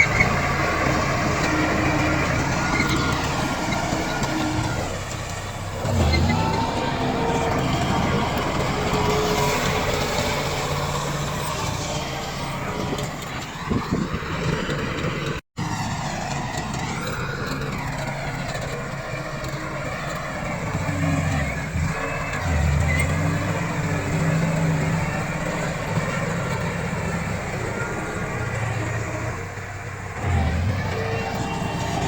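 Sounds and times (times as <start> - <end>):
bulldozer diesel engine under load: 0.0 - 32.0.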